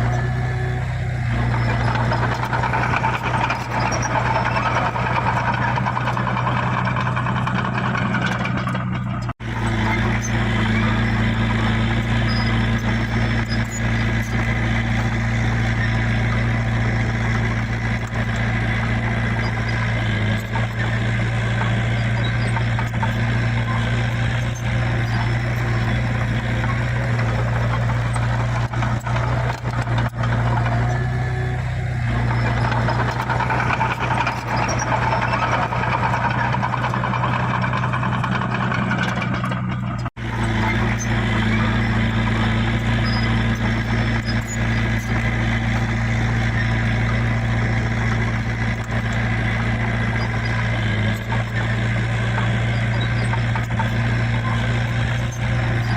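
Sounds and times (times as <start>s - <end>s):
grinding and clattering machinery: 0.0s - 55.9s
heavy diesel engine running: 0.0s - 55.9s.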